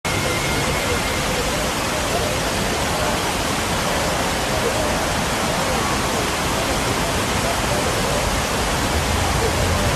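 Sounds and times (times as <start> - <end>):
faint voices: 0.1 - 9.9
waterfalls pouring over rocks: 0.1 - 9.9.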